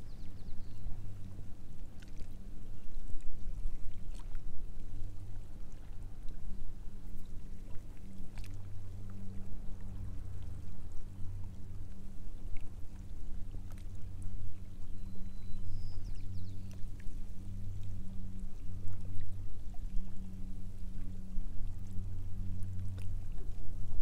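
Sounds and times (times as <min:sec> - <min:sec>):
low steady hum: 0:00.0 - 0:24.0
water lapping against hull: 0:00.0 - 0:24.0.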